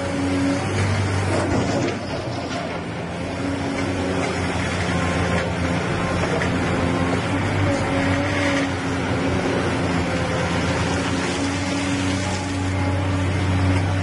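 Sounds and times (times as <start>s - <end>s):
excavator diesel engine humming: 0.0s - 14.0s.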